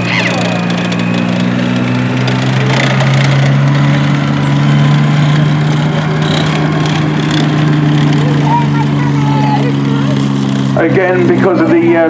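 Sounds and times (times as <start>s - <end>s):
tank engine running: 0.0s - 12.0s.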